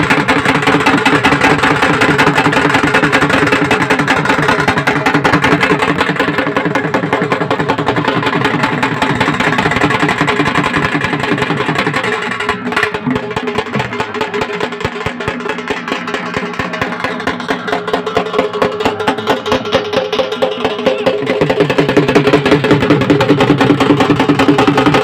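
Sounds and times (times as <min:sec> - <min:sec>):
fast dense drumming: 0:00.0 - 0:25.0.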